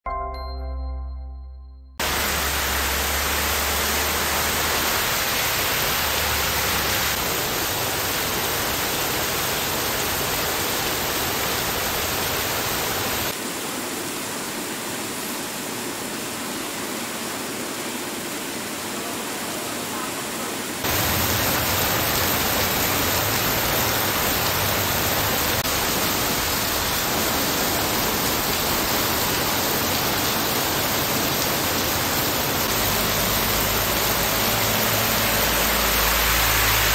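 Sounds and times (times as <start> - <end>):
heavy rain and hail: 2.0 - 36.9.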